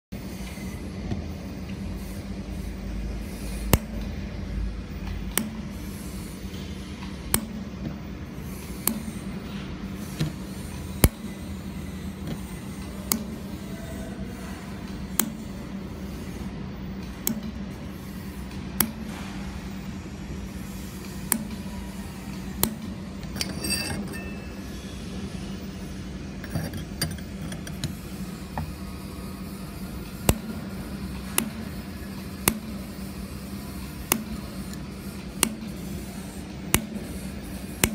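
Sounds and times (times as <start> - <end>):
laser welder hum: 0.2 - 37.9.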